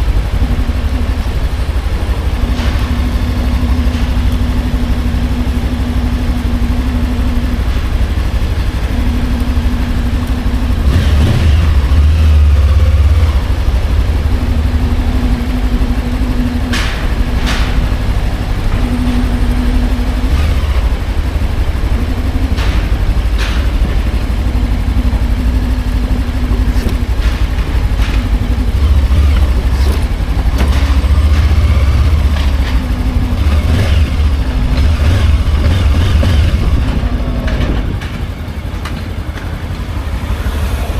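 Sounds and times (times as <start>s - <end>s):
motorcycle engine running: 0.0s - 40.9s
rush of noise: 0.0s - 40.9s.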